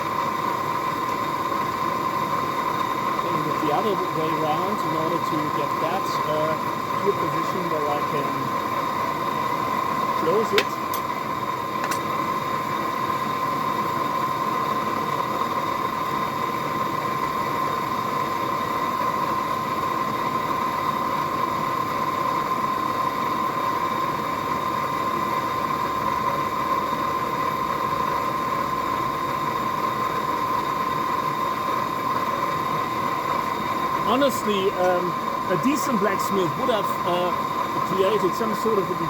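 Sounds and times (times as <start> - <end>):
forge air rushing with high whine: 0.0 - 39.0.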